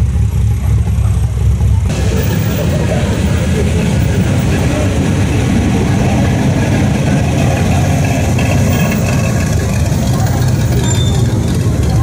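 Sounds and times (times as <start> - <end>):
car and truck engines idling: 0.0 - 12.0.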